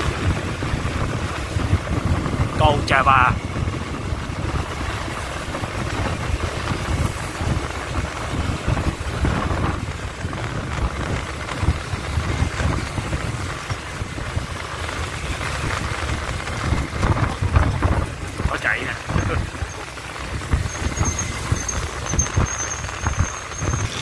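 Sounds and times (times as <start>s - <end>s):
tyres on road: 0.0s - 24.0s
wind buffeting microphone: 0.0s - 24.0s
motorbike engine: 3.4s - 24.0s.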